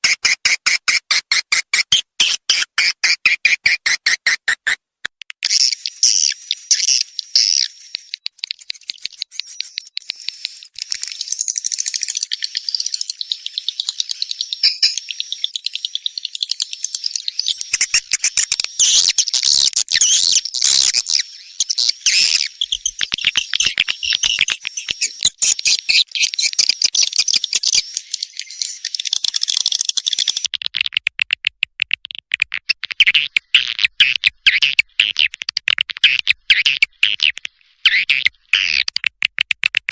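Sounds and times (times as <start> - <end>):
recorded swiftlet calls: 5.4 - 39.9.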